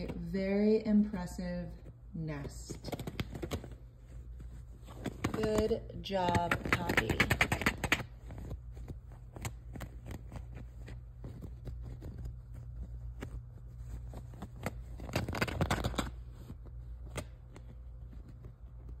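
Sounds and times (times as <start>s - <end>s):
animal scratching and digging: 1.4s - 19.0s.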